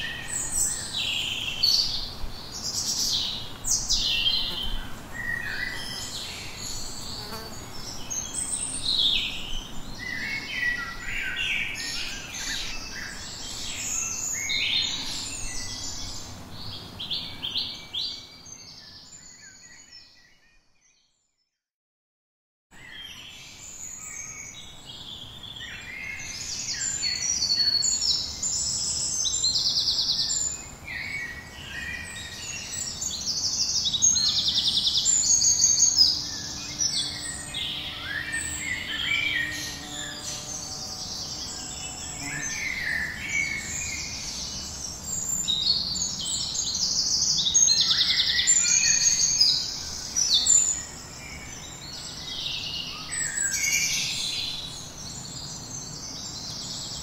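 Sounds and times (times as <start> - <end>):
songbirds singing chorus: 0.0 - 21.4, 22.7 - 57.0.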